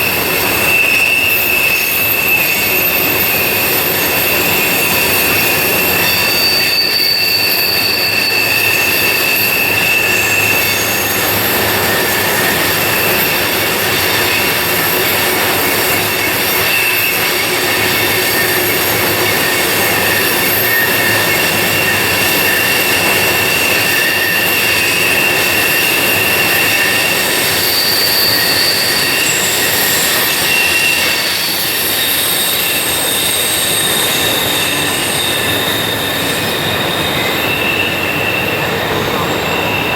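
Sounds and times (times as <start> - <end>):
wheel flanges squealing: 0.0 - 39.9
wheels rumbling on rail: 0.0 - 39.9.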